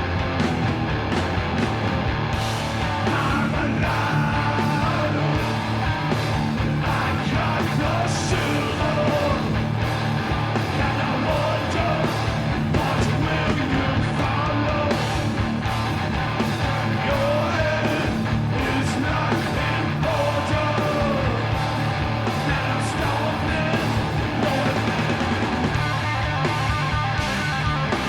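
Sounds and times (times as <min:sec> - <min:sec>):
heavy rock music: 0:00.0 - 0:28.0.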